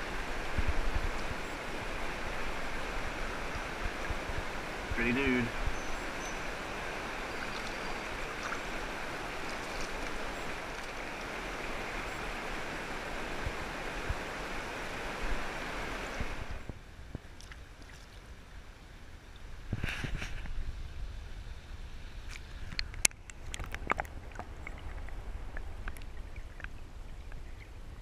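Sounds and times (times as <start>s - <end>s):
creek water rushing: 0.0s - 19.8s, 21.3s - 28.0s.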